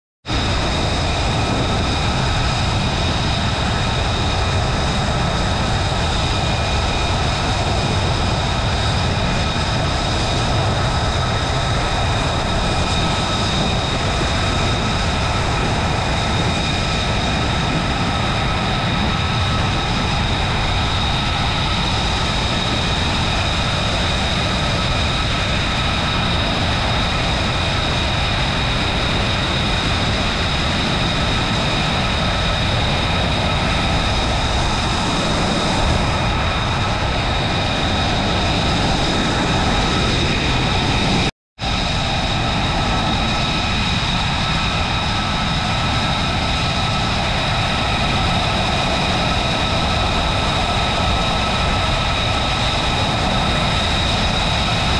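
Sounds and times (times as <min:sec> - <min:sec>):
jet engine idling: 0:00.2 - 0:54.9.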